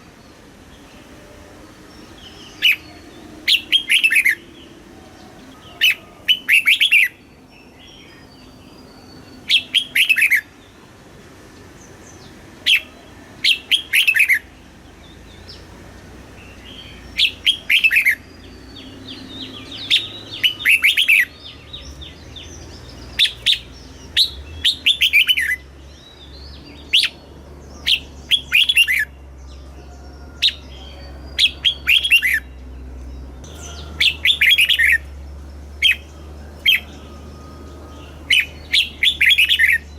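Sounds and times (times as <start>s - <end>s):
bulbul singing: 0.0s - 10.8s, 11.6s - 39.9s.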